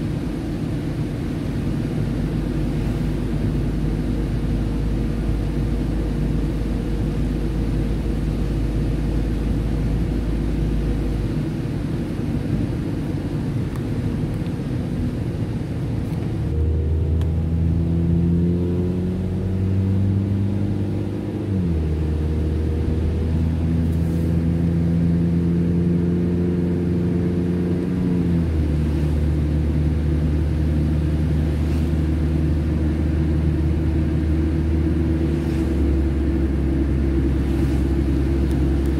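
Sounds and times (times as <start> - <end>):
car engine: 0.0 - 38.9.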